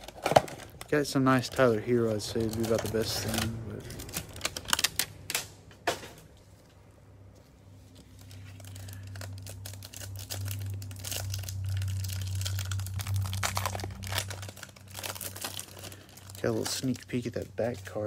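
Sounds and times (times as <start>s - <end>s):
cellophane wrapper crinkling and tearing: 0.0s - 5.5s, 7.7s - 18.0s.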